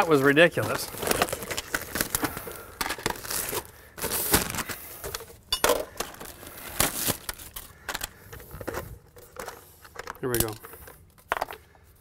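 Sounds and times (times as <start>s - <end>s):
plastic wrapping crinkling: 0.0s - 11.6s.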